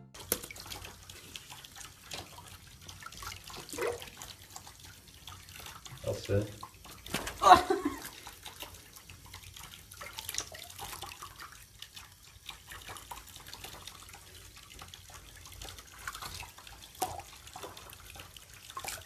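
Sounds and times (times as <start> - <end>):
water splashing and dripping in a tub: 0.0 - 19.0.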